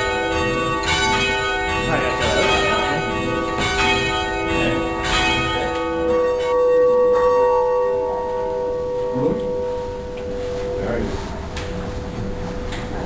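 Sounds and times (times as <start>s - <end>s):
church bells ringing: 0.0s - 12.8s.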